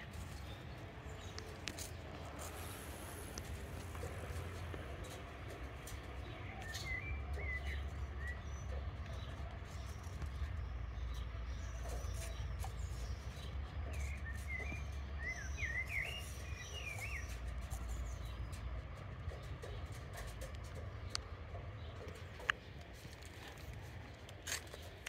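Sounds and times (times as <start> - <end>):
small songbirds chirping: 0.0 - 25.0.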